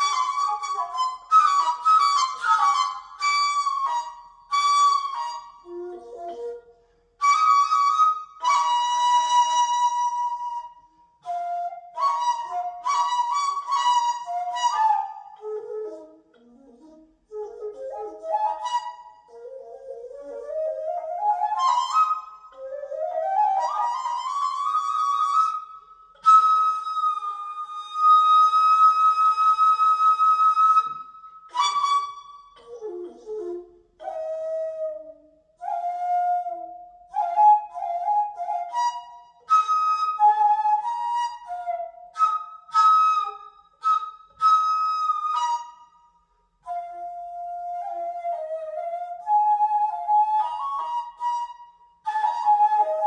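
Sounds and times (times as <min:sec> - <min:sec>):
bamboo flute melody: 0:00.0 - 0:53.0.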